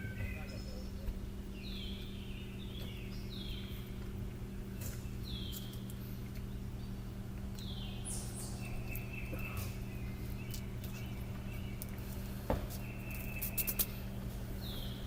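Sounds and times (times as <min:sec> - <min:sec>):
bird chirping: 0:00.0 - 0:15.0
low electrical hum: 0:00.0 - 0:15.0.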